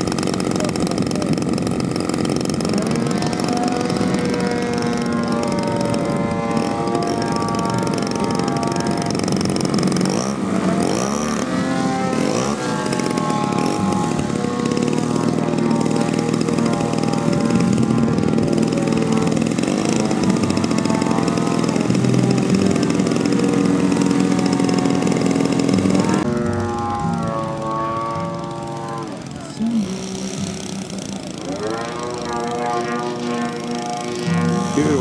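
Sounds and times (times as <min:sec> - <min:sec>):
model plane engine revving: 0:00.0 - 0:35.0.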